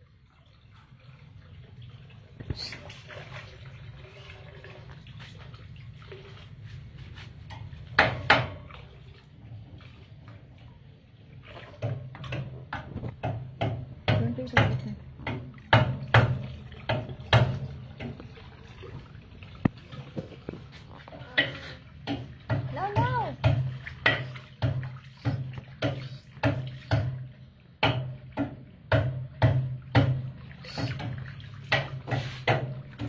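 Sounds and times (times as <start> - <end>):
water splashing in paddling pool: 0.0 - 33.0.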